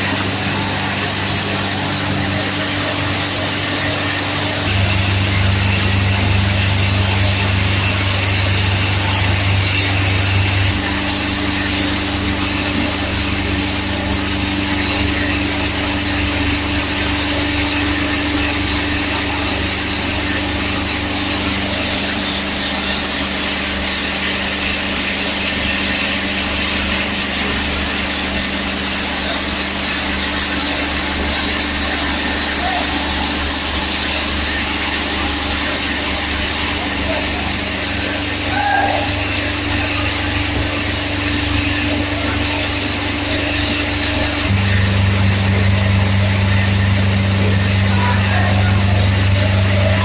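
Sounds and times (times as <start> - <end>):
machine motor hum: 0.0 - 50.0.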